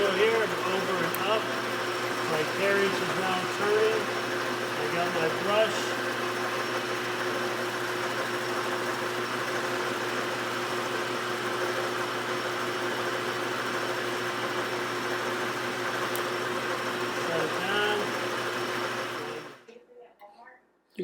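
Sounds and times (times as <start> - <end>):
lathe machine hum: 0.0 - 19.7.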